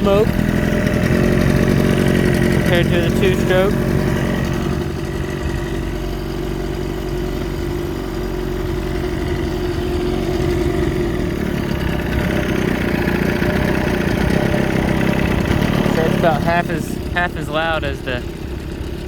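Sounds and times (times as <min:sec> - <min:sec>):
outboard engine idling: 0:00.0 - 0:19.0.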